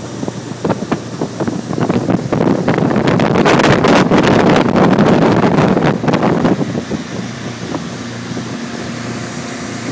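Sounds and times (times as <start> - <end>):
motorboat engine running: 0.0 - 9.9
wind buffeting microphone: 0.0 - 9.9.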